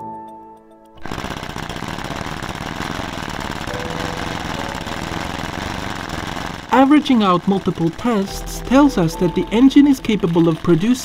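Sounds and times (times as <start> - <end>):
air engine clattering: 1.0 - 11.0.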